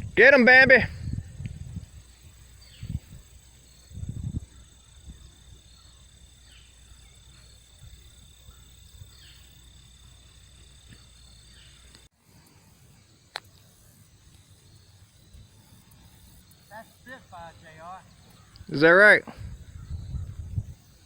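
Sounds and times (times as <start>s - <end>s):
crickets droning: 0.0s - 21.0s.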